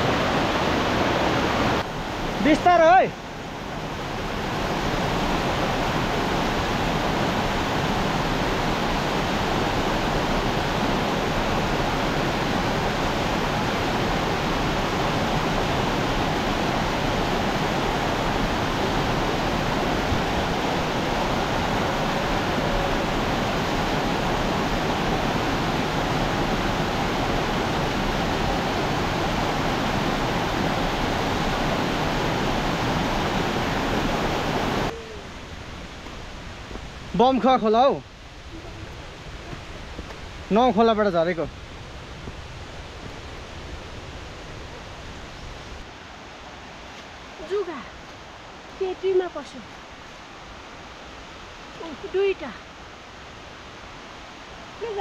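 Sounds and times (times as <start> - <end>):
small waterfalls cascading: 0.0 - 55.0
stream rushing over rocks: 0.0 - 55.0.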